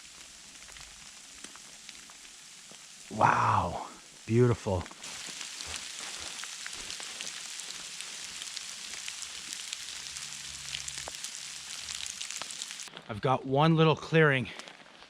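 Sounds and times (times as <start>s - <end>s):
light rain pattering in woods: 0.0s - 15.0s.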